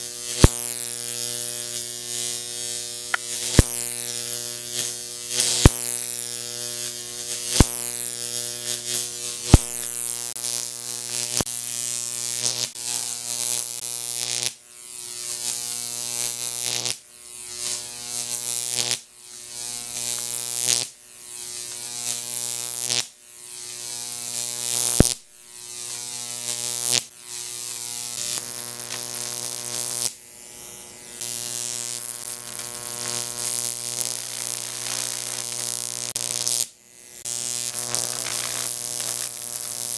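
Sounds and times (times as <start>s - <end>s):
sharp electric snaps: 0.0s - 14.5s, 15.1s - 39.9s
electric arc buzzing: 0.0s - 39.9s.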